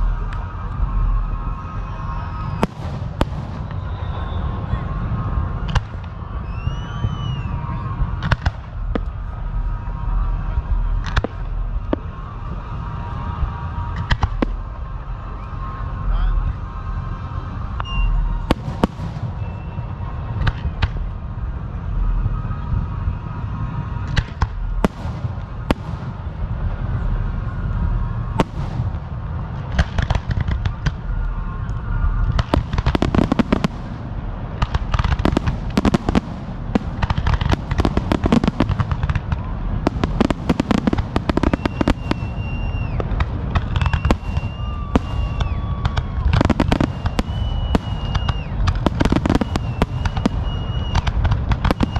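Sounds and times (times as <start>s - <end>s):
whistling firework shells: 0.0s - 15.6s, 17.7s - 21.2s, 23.8s - 51.9s
fireworks bangs and crackles: 0.0s - 51.9s.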